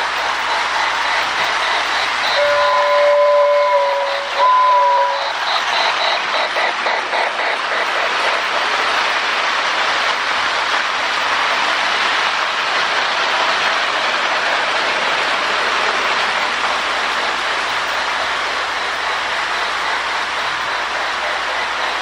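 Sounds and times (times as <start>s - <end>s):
model train rushing hiss: 0.0s - 22.0s
steam locomotive chuffs: 0.0s - 22.0s.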